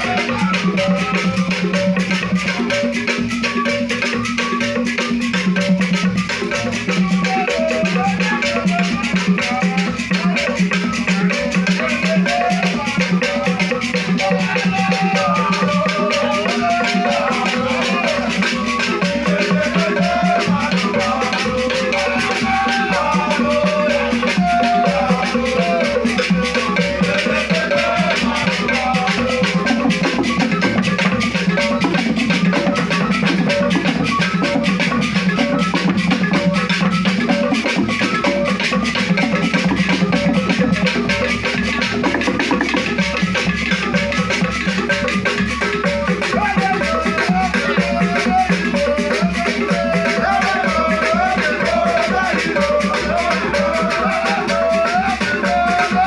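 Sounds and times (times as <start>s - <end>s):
drums: 0.0s - 56.0s
shakers in fast rhythm: 0.0s - 56.0s.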